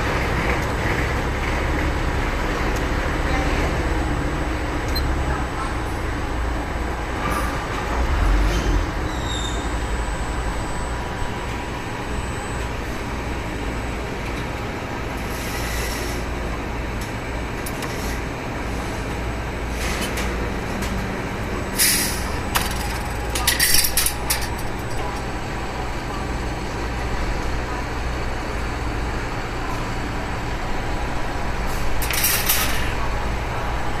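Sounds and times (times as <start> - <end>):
machine mechanical hum: 0.0 - 34.0.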